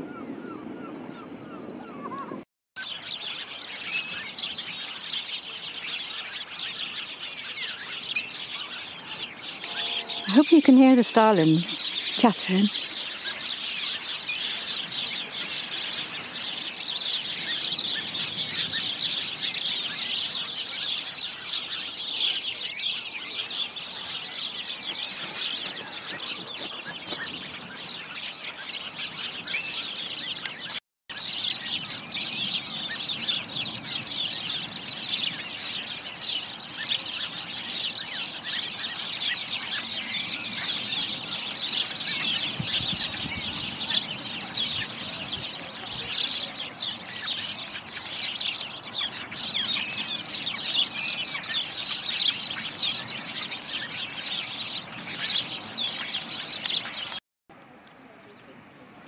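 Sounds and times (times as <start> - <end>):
starlings chattering: 0.0 - 57.2.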